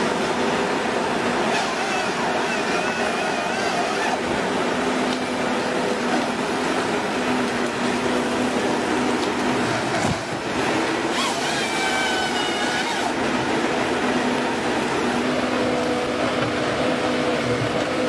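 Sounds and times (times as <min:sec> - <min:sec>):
harvester engine and hydraulics hum: 0:00.0 - 0:18.0
high machine whine: 0:00.0 - 0:18.0.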